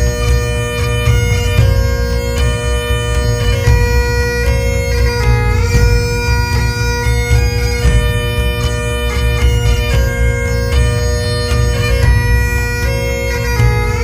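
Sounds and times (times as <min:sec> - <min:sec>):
bagpipe music: 0:00.0 - 0:14.0
strong low beat: 0:00.0 - 0:14.0.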